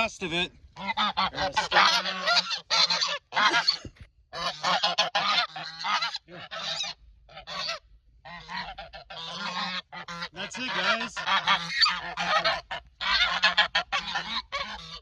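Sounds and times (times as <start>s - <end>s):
geese honking: 0.7s - 15.0s.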